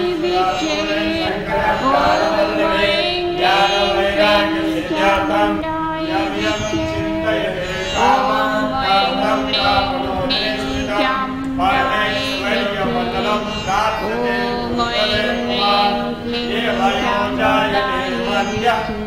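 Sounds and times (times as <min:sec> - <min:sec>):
chanted hymn with long notes: 0:00.0 - 0:19.0.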